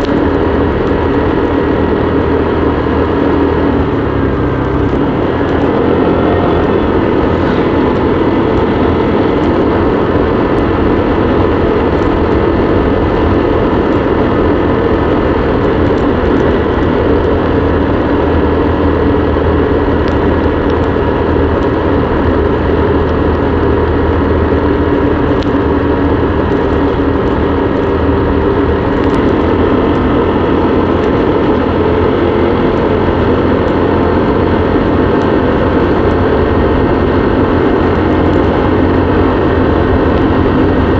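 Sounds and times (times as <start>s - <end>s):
motorbike engine cruising: 0.0s - 40.9s
road and wind noise: 0.0s - 40.9s.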